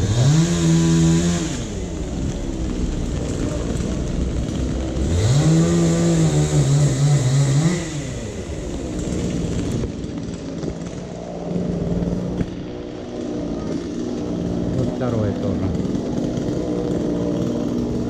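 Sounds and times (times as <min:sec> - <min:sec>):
small petrol engine revving: 0:00.0 - 0:18.0.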